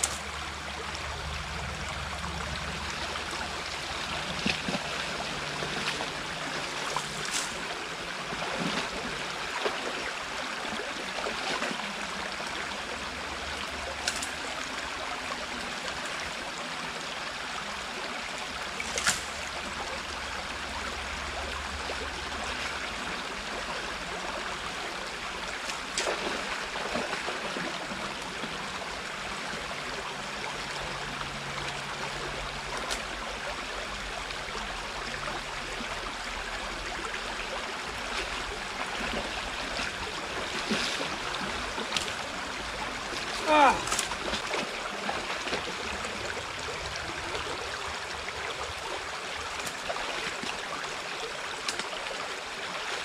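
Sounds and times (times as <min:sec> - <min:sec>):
water rushing: 0:00.0 - 0:53.0.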